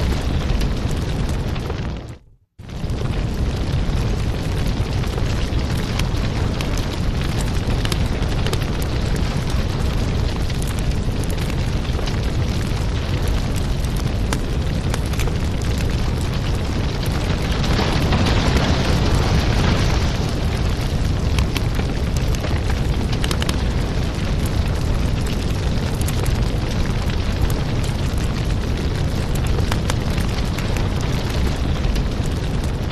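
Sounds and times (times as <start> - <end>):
low fire rumble: 0.0 - 32.9
wood fire crackling and popping: 0.0 - 32.9.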